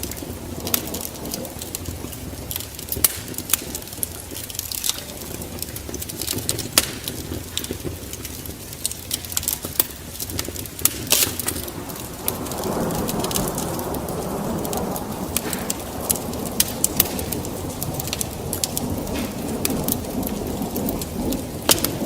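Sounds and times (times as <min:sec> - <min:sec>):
rain: 0:00.0 - 0:22.0
rolling thunder: 0:00.0 - 0:22.0
wood fire crackling and popping: 0:00.0 - 0:22.0.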